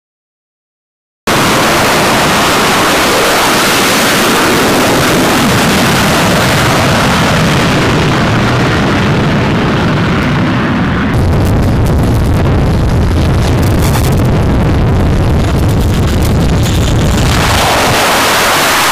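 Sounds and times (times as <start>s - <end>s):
jet engine noise: 1.3s - 18.9s.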